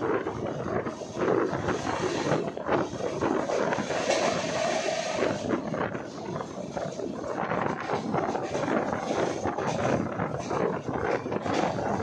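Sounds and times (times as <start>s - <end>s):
passenger train running: 0.0s - 12.0s
wind buffeting the microphone: 0.0s - 12.0s.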